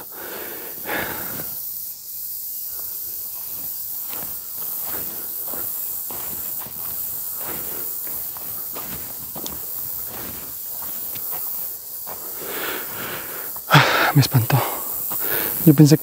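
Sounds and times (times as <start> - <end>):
steady high hiss: 0.0 - 16.0
footsteps crunching on dirt trail: 2.6 - 16.0.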